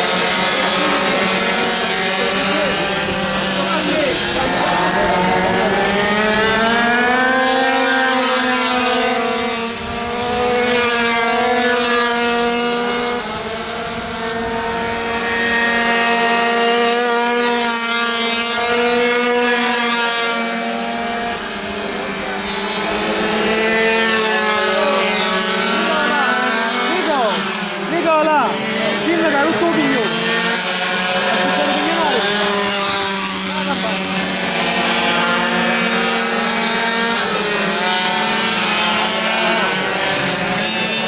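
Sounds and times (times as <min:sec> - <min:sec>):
small two-stroke engines racing: 0:00.0 - 0:41.0.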